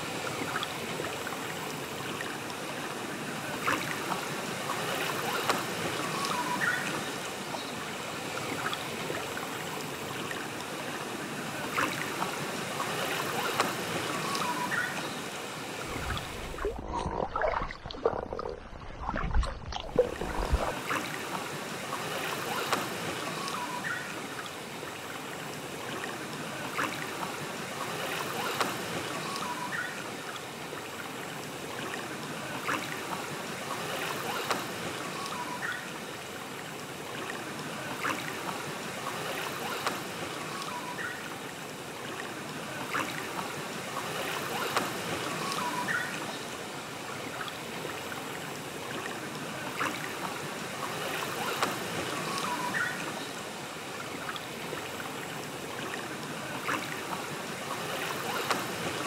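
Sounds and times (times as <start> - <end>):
lake water lapping: 0.0 - 59.0.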